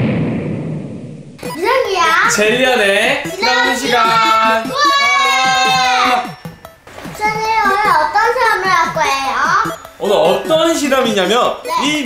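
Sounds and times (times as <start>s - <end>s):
bouncy bass line: 1.4s - 12.0s.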